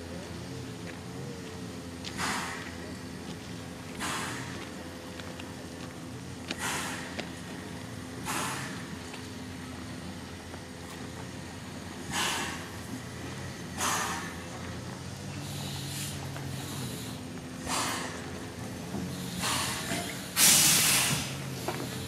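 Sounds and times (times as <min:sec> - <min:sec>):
steam locomotive exhaust chuffs: 0:00.6 - 0:22.0.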